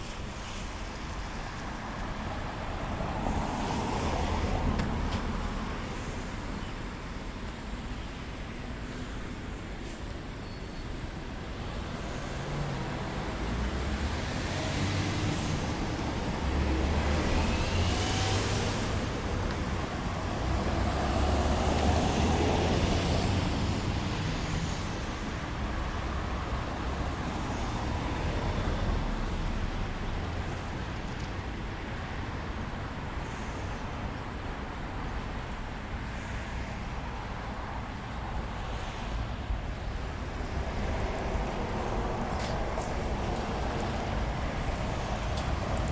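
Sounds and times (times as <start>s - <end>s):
vehicles passing with low rumble: 0.0s - 45.9s.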